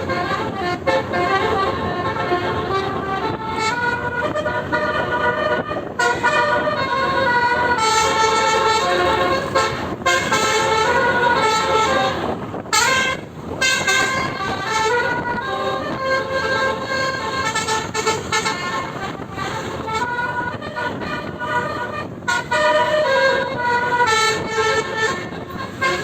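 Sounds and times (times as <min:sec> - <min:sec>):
air horn playing a tune: 0:00.0 - 0:26.0
bus driving on road: 0:00.0 - 0:26.0.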